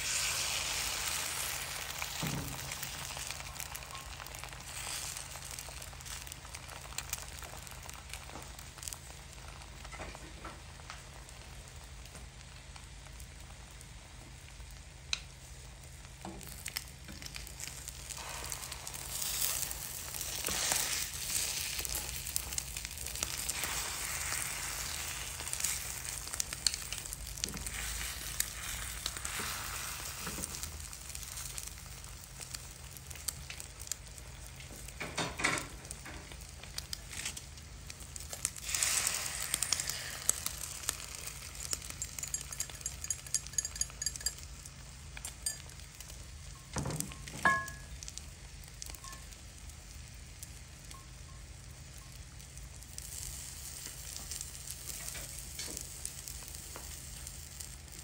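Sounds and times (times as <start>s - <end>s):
eggs sizzling in oil: 0.0s - 58.0s.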